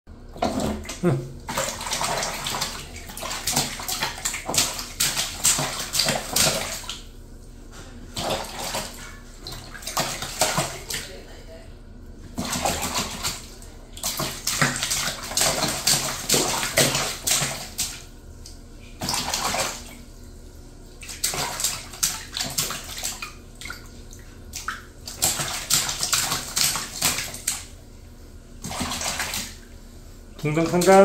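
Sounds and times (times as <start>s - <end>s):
baby splashing bathwater: 0.2s - 7.1s, 8.0s - 11.4s, 12.3s - 20.1s, 21.0s - 27.8s, 28.6s - 29.8s, 30.4s - 31.0s.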